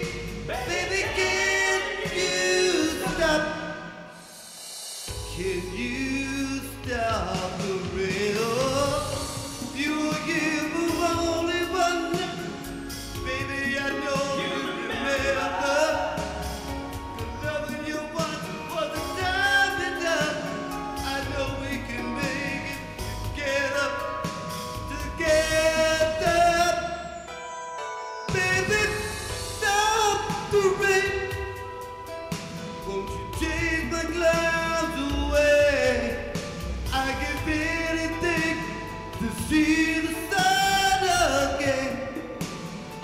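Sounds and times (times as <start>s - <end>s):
bass line: 0.0s - 3.7s, 5.1s - 27.3s, 28.3s - 42.5s
person singing slow song: 0.0s - 27.6s, 28.2s - 43.0s.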